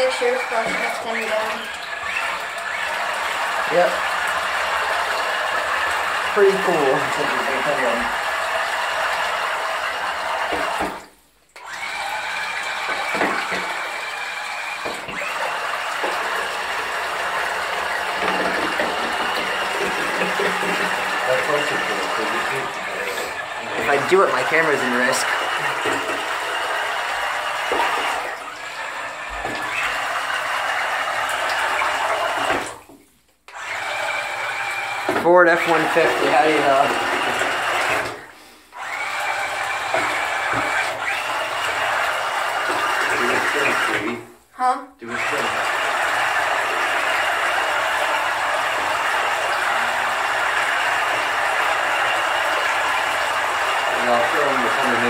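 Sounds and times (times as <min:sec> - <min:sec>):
toy boat churning water: 0:00.0 - 0:44.4, 0:45.0 - 0:55.0.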